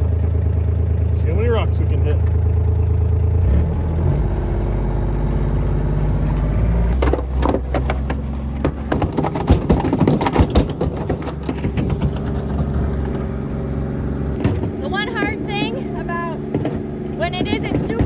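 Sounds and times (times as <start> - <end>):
engine running: 0.0 - 18.0
plow blade scraping and clattering: 0.0 - 18.0.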